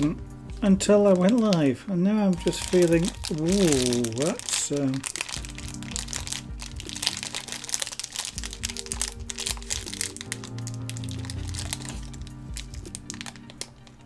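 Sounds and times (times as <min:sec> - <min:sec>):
music of slow held chords: 0:00.0 - 0:14.0
plastic bag crinkling: 0:00.9 - 0:14.0.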